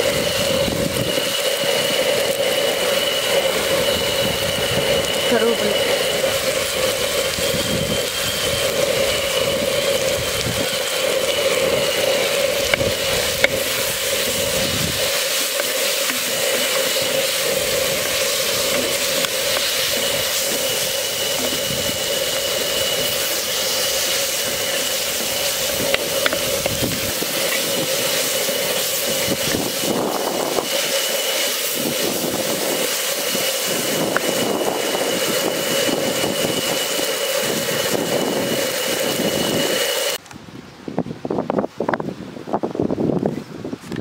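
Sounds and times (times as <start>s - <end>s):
steady hum: 0.0s - 40.2s
vegetables sizzling in oil: 0.0s - 40.2s
gusty wind: 0.0s - 44.0s.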